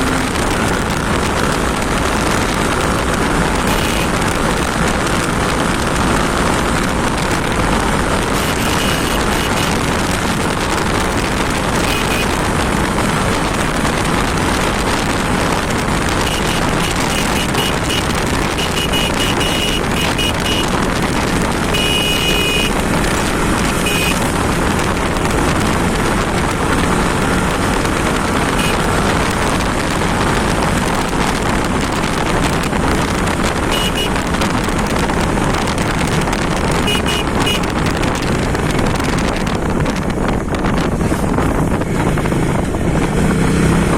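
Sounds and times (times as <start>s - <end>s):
motorcycle engine: 0.0s - 43.9s
wind buffeting microphone: 0.0s - 43.9s.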